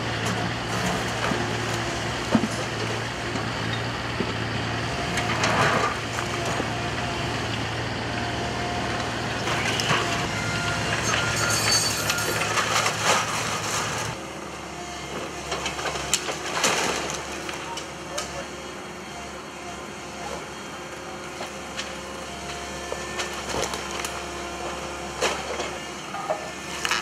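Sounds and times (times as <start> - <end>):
excavator engine humming: 0.0 - 27.0.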